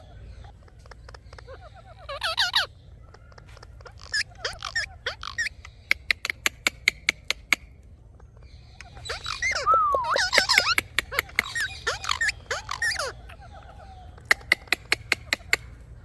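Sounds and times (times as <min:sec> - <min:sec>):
parrots warbling and chattering: 0:00.0 - 0:16.0.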